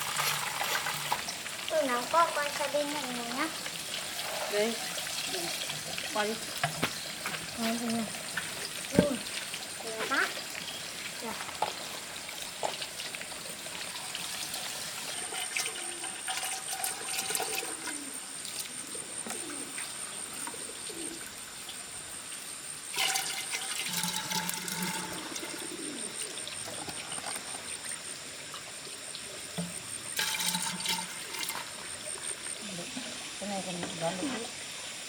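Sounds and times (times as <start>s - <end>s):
water trickling and splashing: 0.0s - 35.0s.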